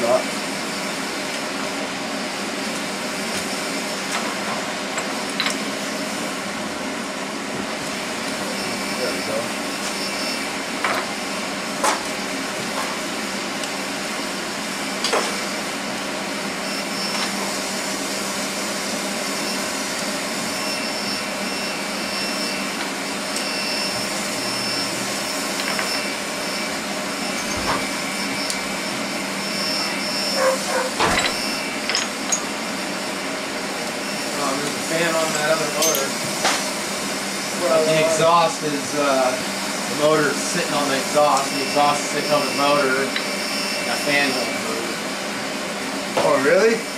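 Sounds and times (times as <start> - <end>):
fan rushing hiss with whine: 0.0 - 46.9.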